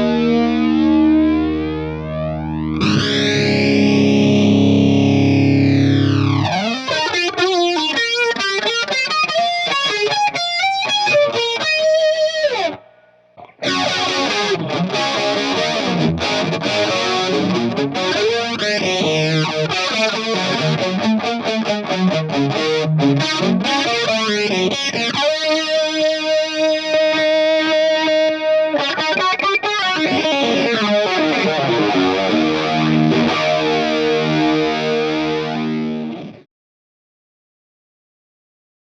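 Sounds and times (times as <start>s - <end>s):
electric guitar with flanger: 0.0s - 36.5s.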